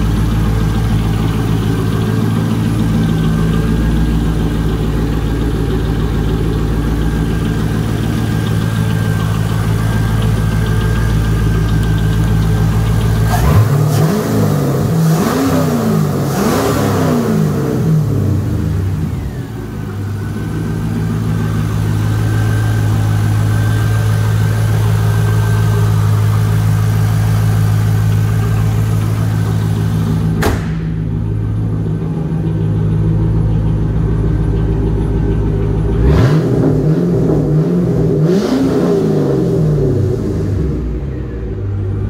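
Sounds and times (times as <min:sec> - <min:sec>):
car engine idling and revving: 0:00.0 - 0:42.0.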